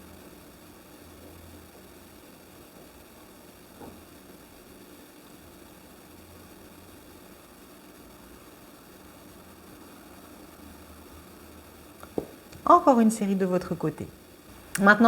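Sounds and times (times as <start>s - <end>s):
faint hiss with low hum: 0.0s - 15.0s.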